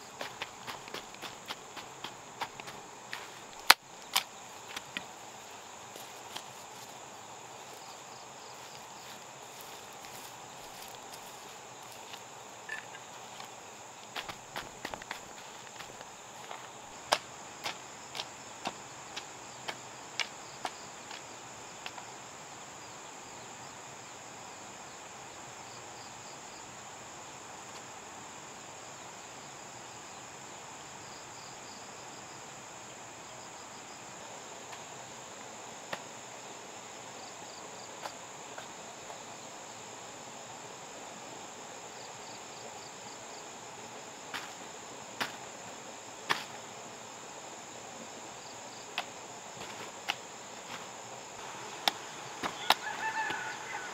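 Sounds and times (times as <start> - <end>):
insects chirring: 0.0 - 53.9.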